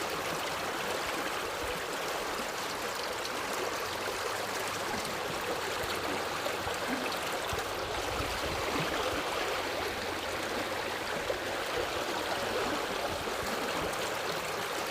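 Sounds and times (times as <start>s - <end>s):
river flowing over rocks: 0.0s - 14.9s.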